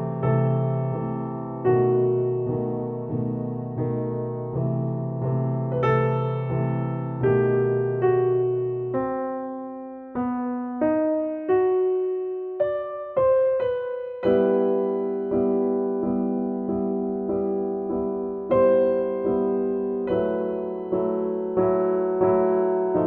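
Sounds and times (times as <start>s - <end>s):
soft piano melody: 0.0s - 23.0s.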